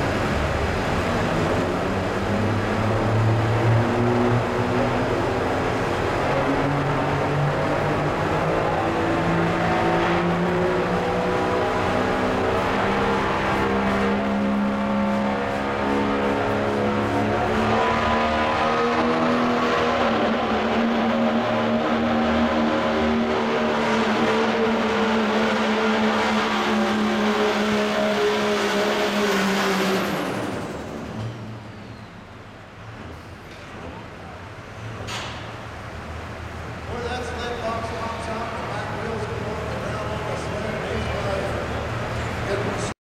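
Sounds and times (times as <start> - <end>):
diesel engine droning with whine: 0.0 - 43.0.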